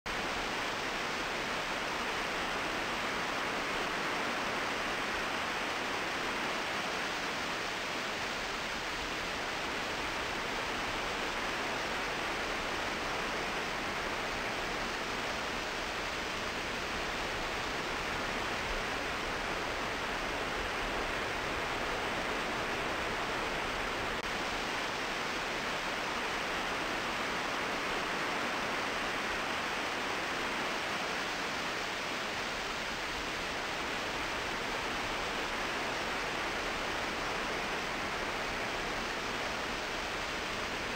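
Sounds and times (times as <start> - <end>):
steady even hiss: 0.1 - 40.9.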